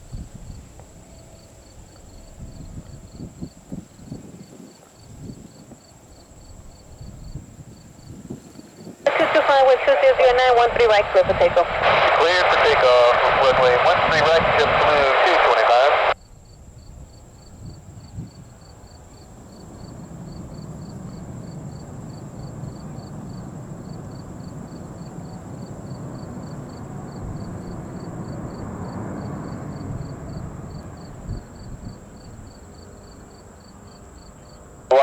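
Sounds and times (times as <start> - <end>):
insects chirping: 0.0 - 15.4, 16.1 - 35.0
distant jet airliner passing: 0.0 - 16.2, 17.1 - 35.0.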